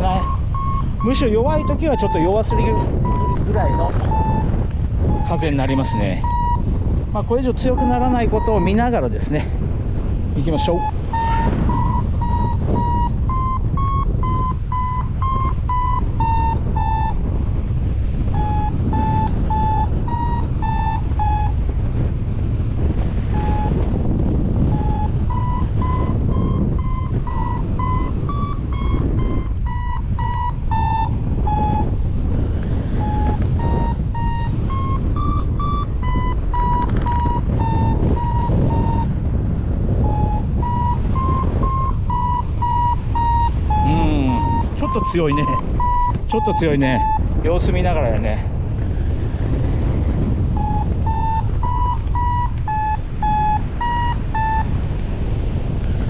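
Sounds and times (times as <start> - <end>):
variometer beeping: 0.0 - 48.2, 49.4 - 55.6
strong wind on microphone: 0.0 - 56.0.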